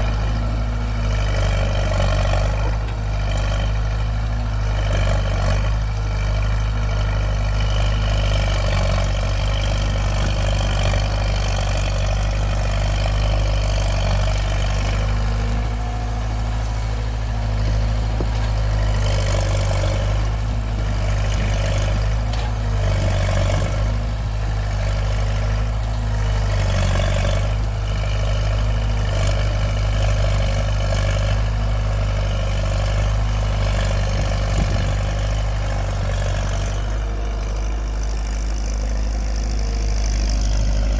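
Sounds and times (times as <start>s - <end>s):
heavy engine running: 0.0s - 40.9s.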